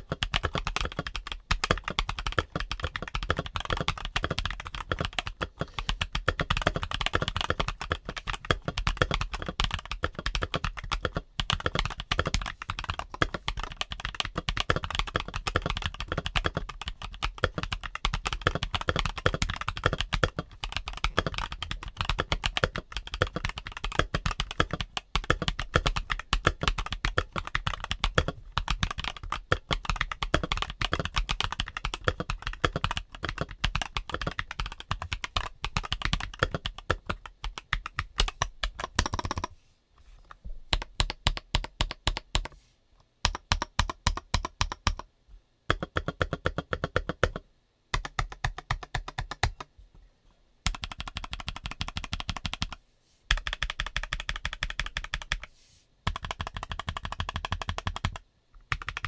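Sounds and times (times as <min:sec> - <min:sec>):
mechanical keyboard typing: 0:00.0 - 0:39.5, 0:40.7 - 0:42.6, 0:43.2 - 0:45.1, 0:45.7 - 0:49.7, 0:50.6 - 0:55.5, 0:56.1 - 0:59.0.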